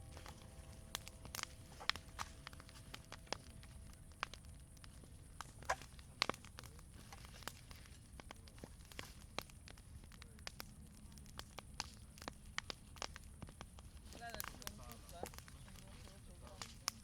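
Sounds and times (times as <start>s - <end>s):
bonfire crackling and popping: 0.0s - 17.0s
low rumble of flames: 0.0s - 17.0s.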